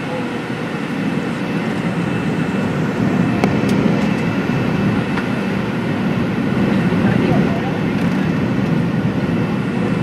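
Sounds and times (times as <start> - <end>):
jet engine cabin rumble: 0.0 - 10.0.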